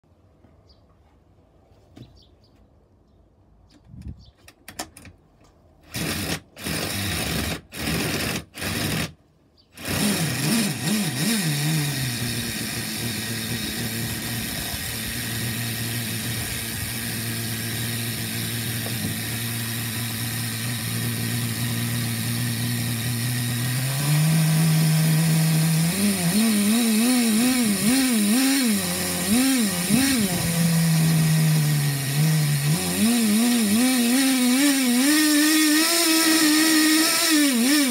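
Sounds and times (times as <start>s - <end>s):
cordless drill spinning: 5.8s - 9.2s, 9.8s - 37.9s
small engine idling and revving: 5.9s - 9.2s, 9.8s - 37.9s.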